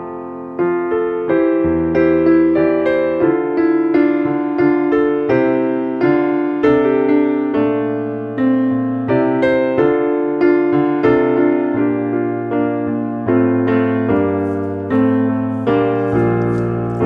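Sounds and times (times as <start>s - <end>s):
piano playing a hymn: 0.0s - 17.0s.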